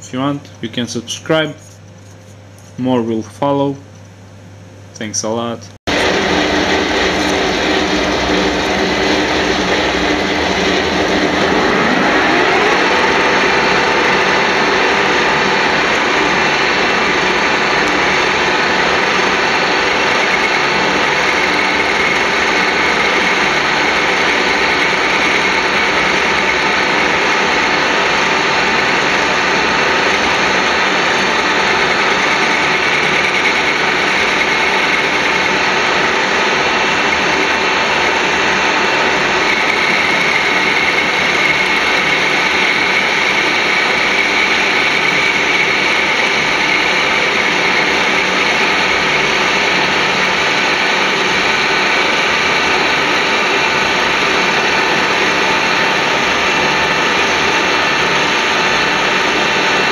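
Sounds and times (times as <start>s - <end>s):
high whine: 5.0s - 59.9s
metal lathe running: 5.9s - 59.9s.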